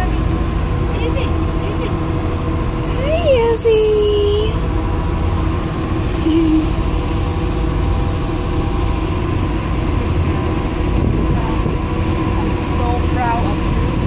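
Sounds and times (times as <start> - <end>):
faint steady hums: 0.0 - 14.0
low vehicle rumble: 0.0 - 14.0.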